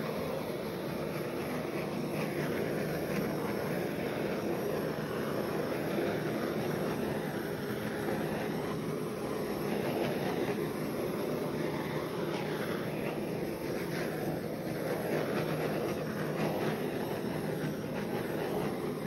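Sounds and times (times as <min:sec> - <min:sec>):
torch flame burning: 0:00.0 - 0:19.0.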